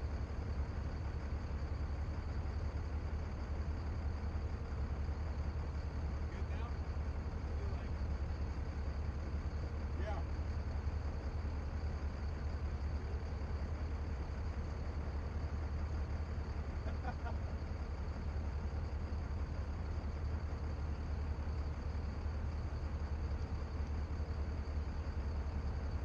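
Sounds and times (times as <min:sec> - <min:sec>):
boat engines droning: 0:00.0 - 0:26.0
faint steady tone: 0:00.0 - 0:26.0.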